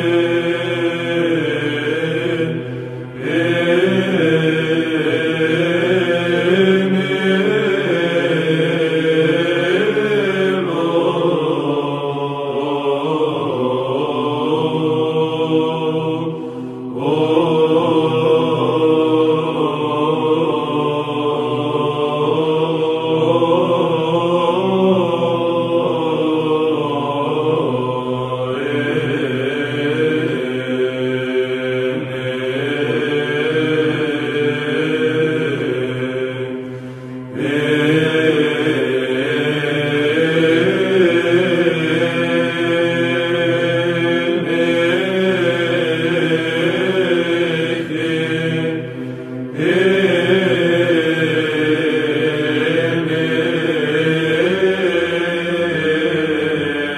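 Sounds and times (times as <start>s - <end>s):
choir chanting over a drone: 0.0s - 56.9s.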